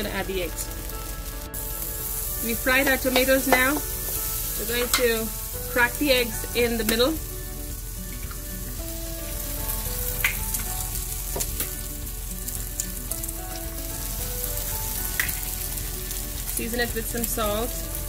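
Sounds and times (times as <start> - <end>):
eggs sizzling in a pan: 0.0 - 18.0.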